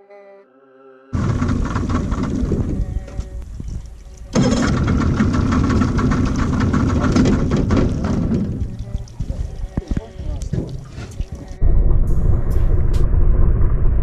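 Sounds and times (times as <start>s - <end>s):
boat engine running: 1.2s - 14.0s.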